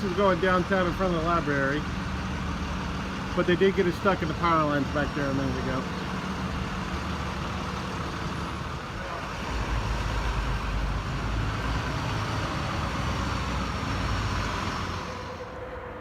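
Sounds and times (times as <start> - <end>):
road traffic noise: 0.0 - 16.0
truck engine rumble: 0.0 - 16.0.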